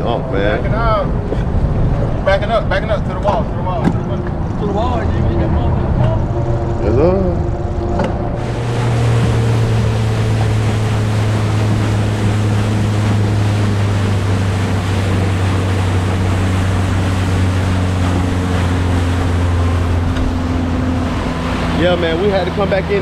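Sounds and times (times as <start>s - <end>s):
wind noise: 0.0s - 22.2s
boat engine humming: 0.0s - 23.0s
water noise: 0.0s - 23.0s.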